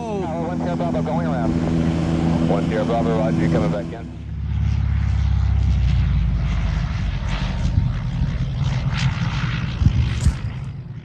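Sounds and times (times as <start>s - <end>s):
propeller plane engine running: 0.0s - 11.0s.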